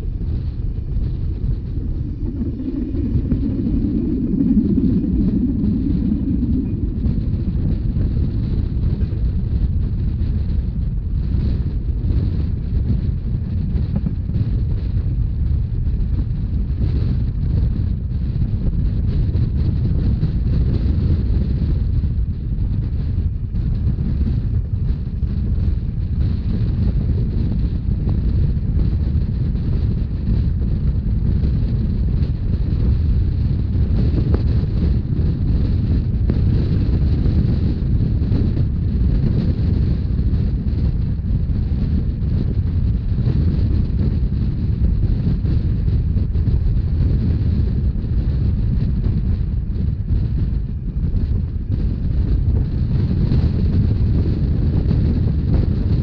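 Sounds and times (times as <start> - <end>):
train rumbling on rails: 0.0 - 56.0
wind buffeting microphone: 0.0 - 56.0.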